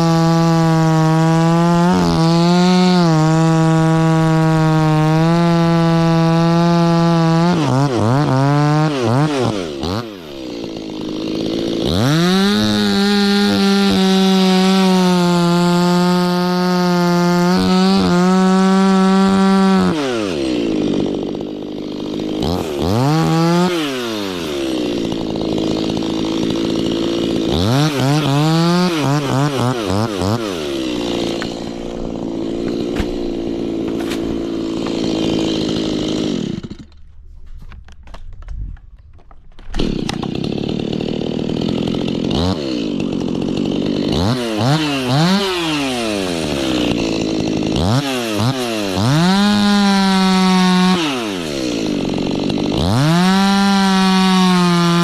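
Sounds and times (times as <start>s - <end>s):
chainsaw cutting into wood: 0.0s - 55.0s.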